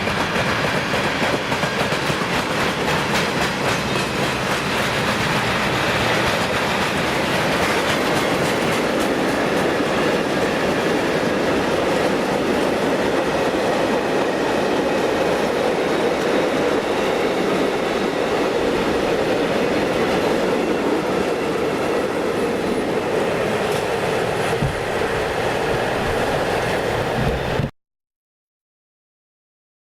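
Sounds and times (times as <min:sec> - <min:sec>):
train rumble: 0:00.0 - 0:27.7.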